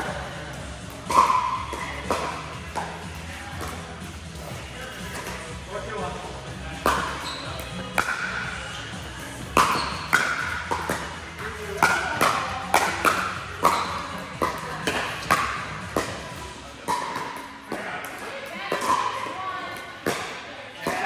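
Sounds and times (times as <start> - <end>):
ball strikes and bounces: 0.0 - 5.6, 6.7 - 21.0.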